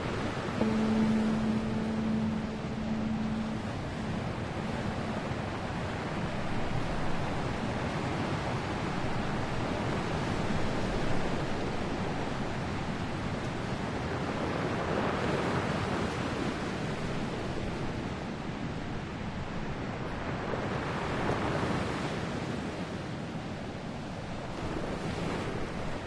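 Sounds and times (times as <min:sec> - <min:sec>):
wind: 0:00.0 - 0:26.0.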